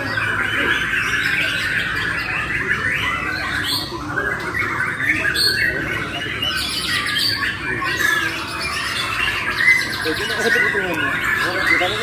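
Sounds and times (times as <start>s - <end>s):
many songbirds singing: 0.0s - 12.0s.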